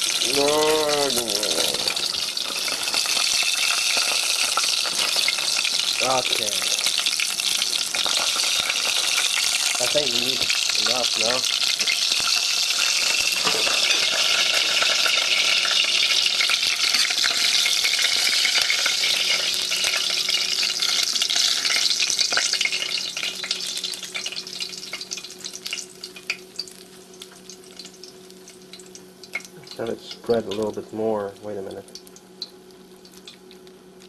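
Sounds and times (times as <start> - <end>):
meat patty sizzling in a pan: 0.0 - 34.0.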